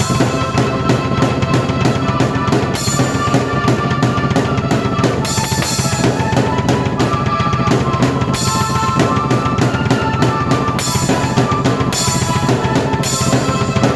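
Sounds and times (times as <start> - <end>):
cymbal crashes: 0.0 - 13.9
drum kit beat: 0.0 - 13.9
held keyboard notes: 0.0 - 13.9.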